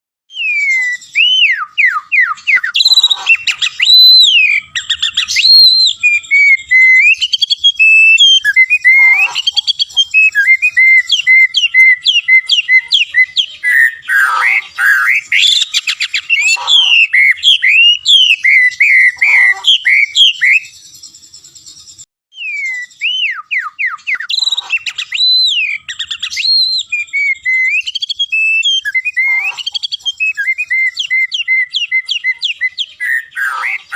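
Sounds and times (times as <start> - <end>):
bird singing whistled phrases: 0.3 - 33.9.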